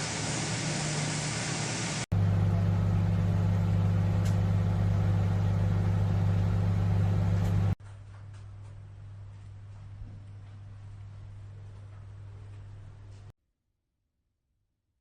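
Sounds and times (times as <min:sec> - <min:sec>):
microwave oven humming: 0:00.0 - 0:13.3.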